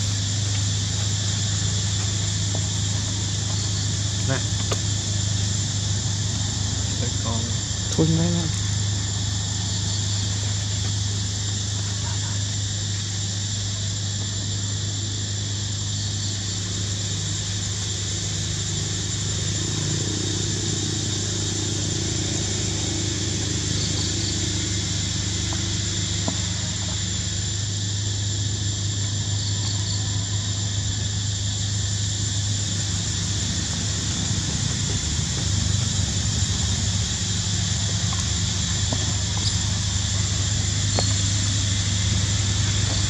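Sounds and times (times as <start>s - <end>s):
low engine-like hum: 0.0s - 43.0s.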